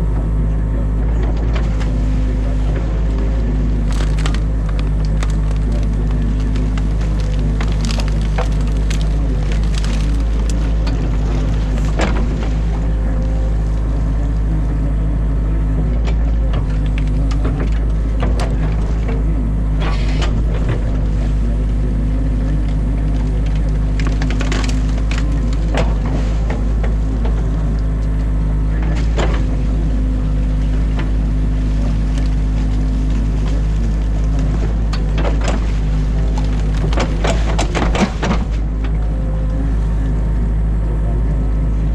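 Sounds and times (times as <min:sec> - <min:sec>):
excavator diesel engine running: 0:00.0 - 0:41.9
branches cracking and snapping: 0:01.3 - 0:14.9, 0:16.1 - 0:40.4.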